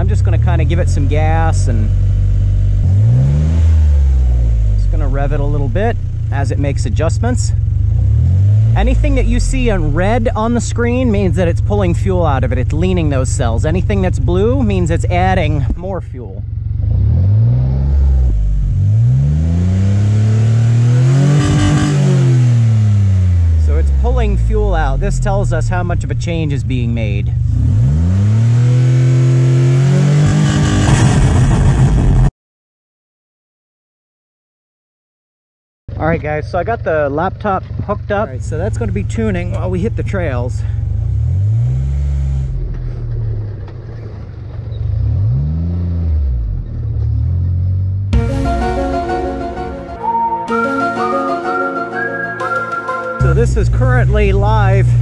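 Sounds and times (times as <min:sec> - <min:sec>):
engine revving: 0:00.0 - 0:32.3, 0:38.2 - 0:49.9, 0:53.2 - 0:55.0.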